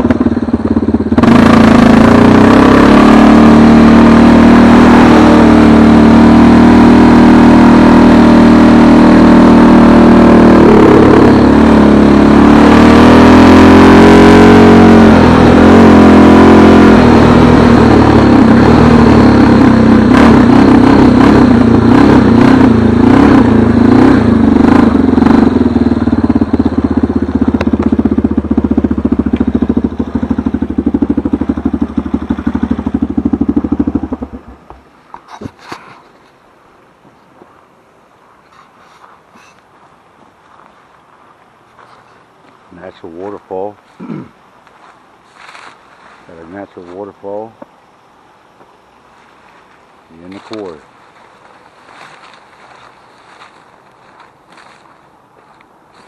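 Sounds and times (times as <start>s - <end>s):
vehicle engine under load: 0.0s - 37.6s, 41.5s - 56.0s.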